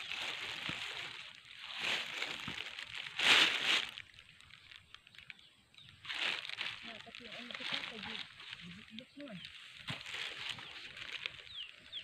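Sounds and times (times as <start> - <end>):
rustling in vegetation: 0.0 - 12.0.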